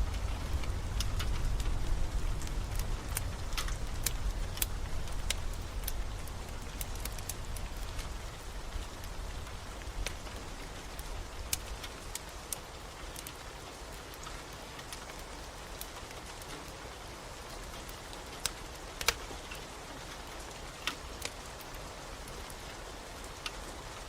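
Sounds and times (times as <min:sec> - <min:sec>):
steady rain: 0:00.0 - 0:24.0
wood fire crackling and popping: 0:00.0 - 0:24.0.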